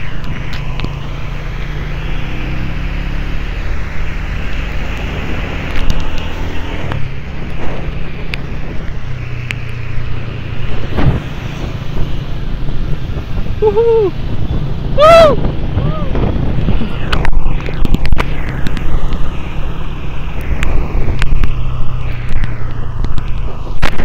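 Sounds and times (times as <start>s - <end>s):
traffic on wet road: 0.0s - 24.0s.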